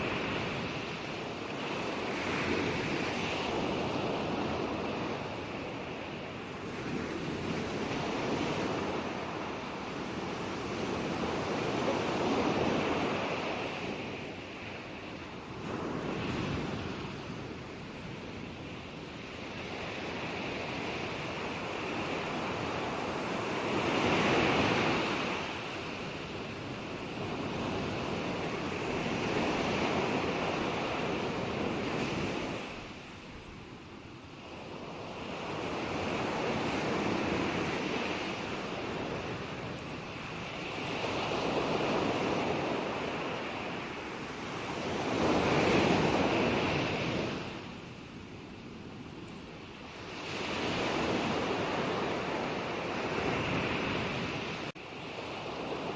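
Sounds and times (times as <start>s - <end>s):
ocean waves breaking ashore: 0.0s - 55.9s.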